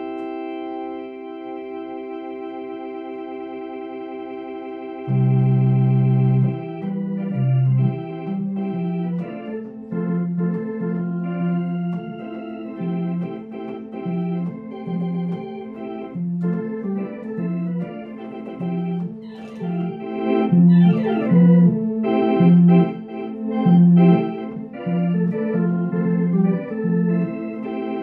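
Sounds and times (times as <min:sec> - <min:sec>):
electronic organ playing blues: 0:00.0 - 0:28.0.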